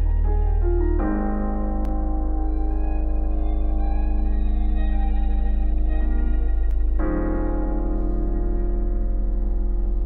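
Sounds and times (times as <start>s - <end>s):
deep sustained bass note: 0.0s - 10.0s
held chords music: 0.0s - 10.0s.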